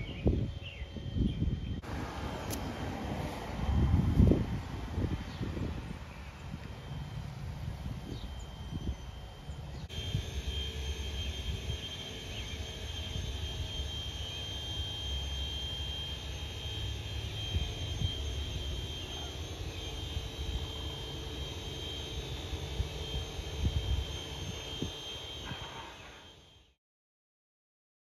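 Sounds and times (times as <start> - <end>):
distant jet airplane rumble: 0.0 - 26.4.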